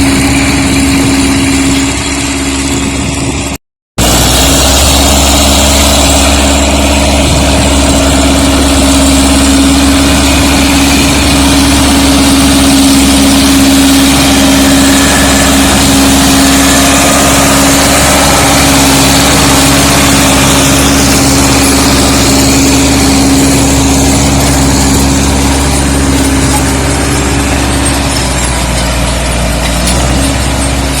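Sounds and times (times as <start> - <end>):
tractor engine under load: 0.0 - 31.0.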